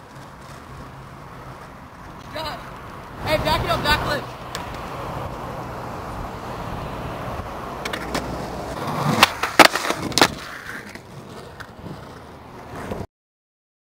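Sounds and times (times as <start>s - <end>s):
skateboard clacking on concrete: 0.0s - 13.0s
skateboard scraping: 0.0s - 13.1s
skateboard wheels rolling on concrete: 0.0s - 13.1s.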